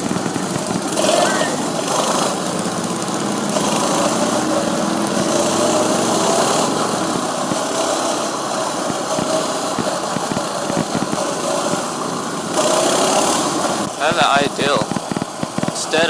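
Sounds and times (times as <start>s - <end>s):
minibike engine running: 0.0s - 16.0s.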